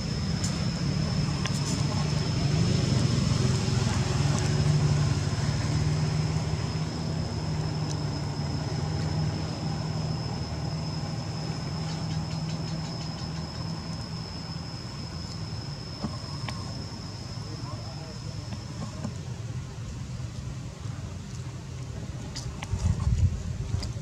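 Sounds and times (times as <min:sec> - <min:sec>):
high-pitched whine: 0:00.0 - 0:23.0
engine humming: 0:00.0 - 0:24.0.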